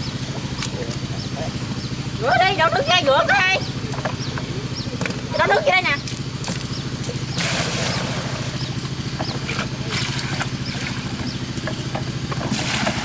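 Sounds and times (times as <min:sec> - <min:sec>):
small engine pulsing: 0:00.0 - 0:13.0.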